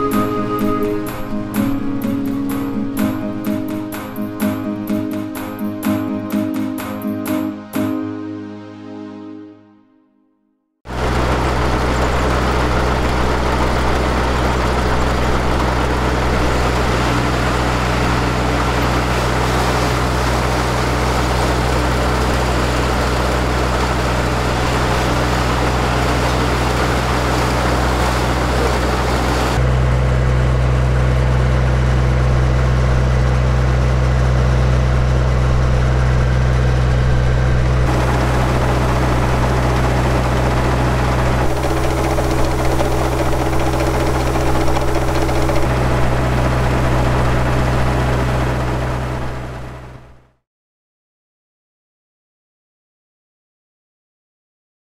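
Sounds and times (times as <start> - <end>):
combine harvester running: 0.0 - 6.9, 10.9 - 50.3.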